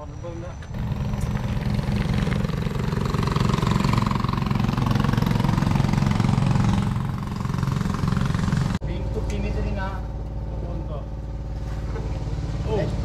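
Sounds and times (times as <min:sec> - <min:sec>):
small boat engine running: 0:00.7 - 0:13.0.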